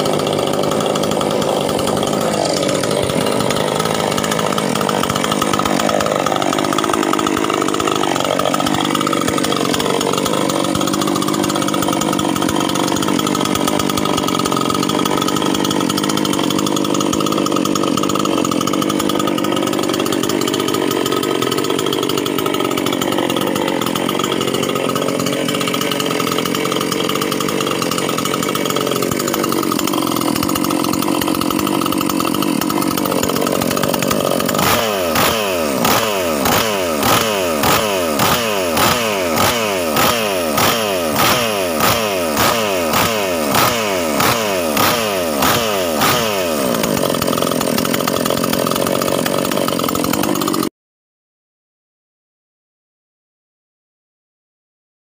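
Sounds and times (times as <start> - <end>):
chainsaw engine running: 0.0 - 50.7.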